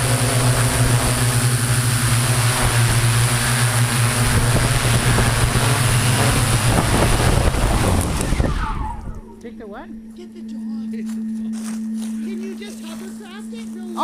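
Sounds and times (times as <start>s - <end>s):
drone motors and propellers humming: 0.0s - 14.0s.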